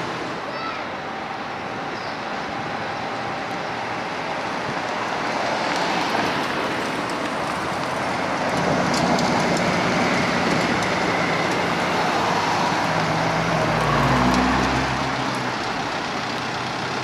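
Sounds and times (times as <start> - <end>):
car engines running: 0.0 - 17.0
rushing outdoor noise: 0.0 - 17.0.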